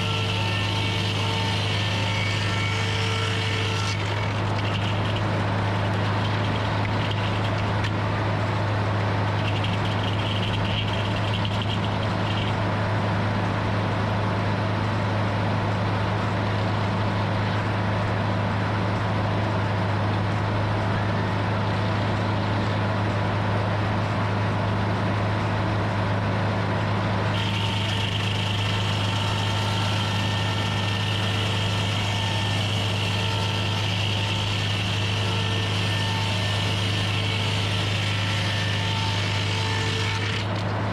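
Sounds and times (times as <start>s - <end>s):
high machine whine: 0.0s - 40.9s
sawmill engine humming: 0.0s - 40.9s.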